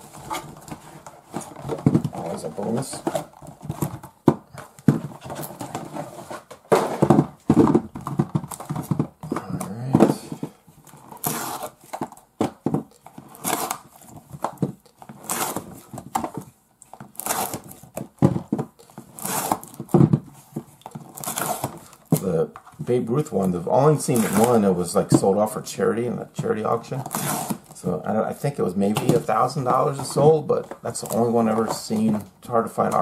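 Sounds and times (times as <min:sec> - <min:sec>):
cardboard packs tapping and scuffing: 0:00.0 - 0:25.5, 0:26.4 - 0:33.0.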